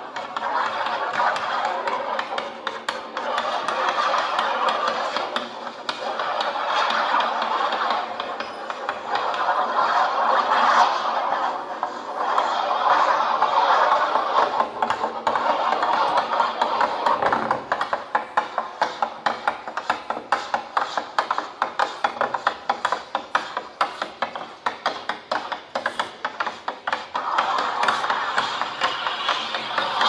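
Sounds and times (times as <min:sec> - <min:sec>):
quick rhythmic taps: 0:00.0 - 0:30.0.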